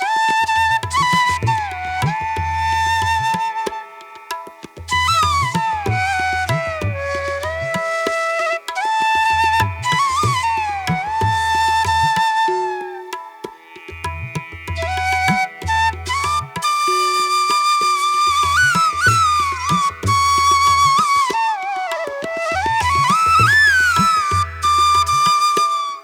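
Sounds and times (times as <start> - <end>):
flute melody: 0.0 - 13.6, 14.7 - 26.0.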